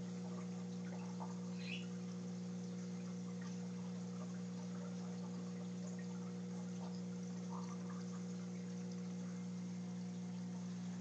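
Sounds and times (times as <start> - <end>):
aquarium filter humming: 0.0 - 11.0
water trickling and dripping: 0.0 - 11.0.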